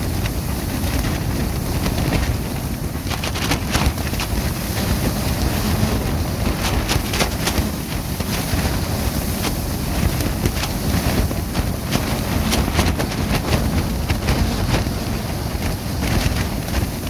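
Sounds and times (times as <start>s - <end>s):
plastic sheeting flapping and crackling: 0.0s - 17.0s
wind rumble on microphone: 0.0s - 17.0s.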